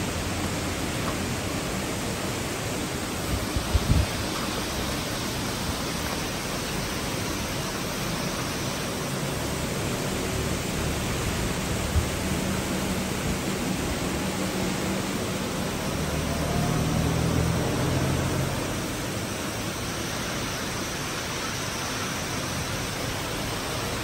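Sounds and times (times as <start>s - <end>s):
pouring rain: 0.0s - 24.0s
wind: 0.0s - 24.0s.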